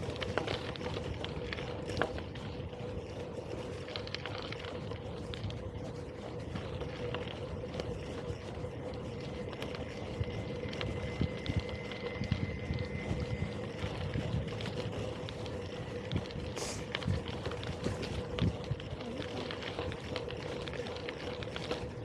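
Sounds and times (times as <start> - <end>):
bike tyres on rough track: 0.0 - 22.0.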